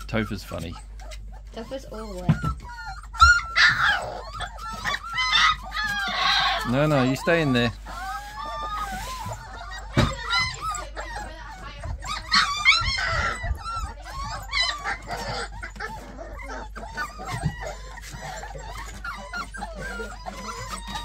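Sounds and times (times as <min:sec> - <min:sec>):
puppies whining and yelping: 0:00.0 - 0:21.0.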